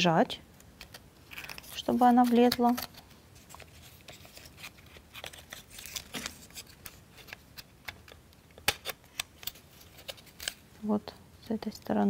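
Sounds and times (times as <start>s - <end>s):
plywood parts clicking and rubbing: 0.6s - 10.6s.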